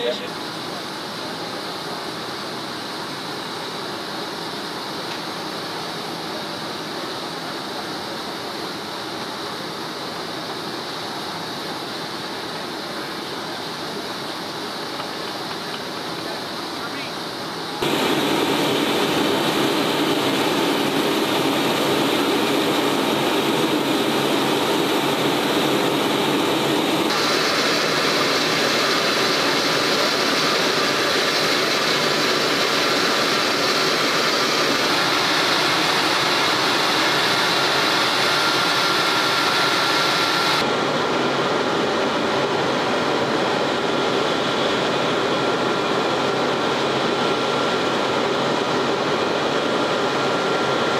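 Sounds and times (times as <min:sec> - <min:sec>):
faint high whine: 0:00.0 - 0:50.9
jet turbine rush and whine: 0:00.0 - 0:50.9.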